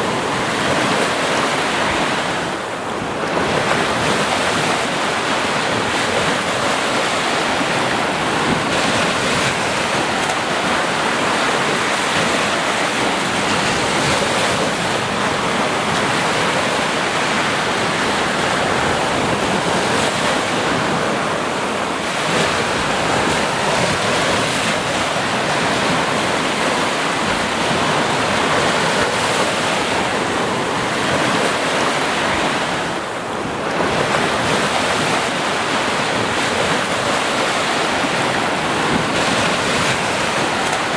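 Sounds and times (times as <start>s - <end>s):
sea waves breaking on a beach: 0.0s - 40.9s
wind on the microphone: 0.0s - 40.9s.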